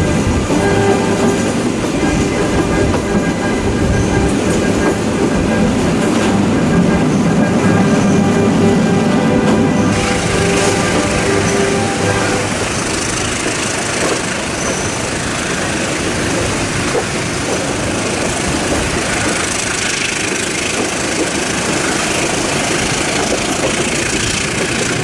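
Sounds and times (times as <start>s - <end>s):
train engine rumble and hiss: 0.0s - 25.0s.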